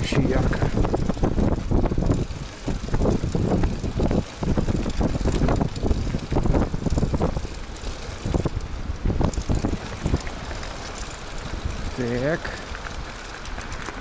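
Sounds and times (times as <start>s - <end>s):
low rumble of bicycle ride: 0.0s - 14.0s
wind buffeting microphone: 0.0s - 14.0s.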